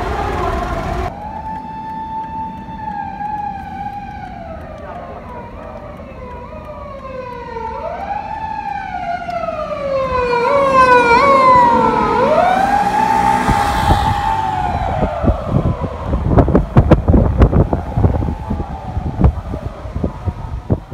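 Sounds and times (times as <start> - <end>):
police siren wailing: 0.0 - 20.9
wind buffeting microphone: 0.0 - 20.9.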